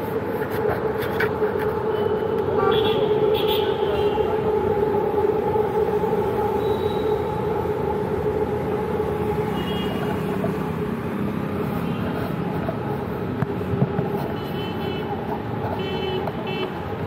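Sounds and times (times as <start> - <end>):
city traffic: 0.0 - 17.0
engine hum: 0.0 - 17.0.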